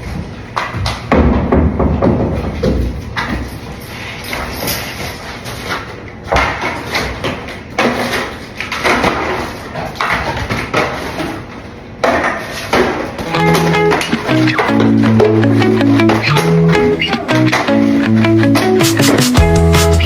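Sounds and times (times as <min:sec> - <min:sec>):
rummaging through rubbish bin: 0:01.7 - 0:20.0.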